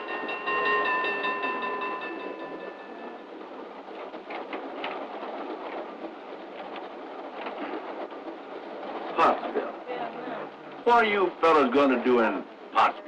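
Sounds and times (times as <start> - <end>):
faint rattles: 0.0 - 12.8
train carriage rushing noise: 0.0 - 13.0.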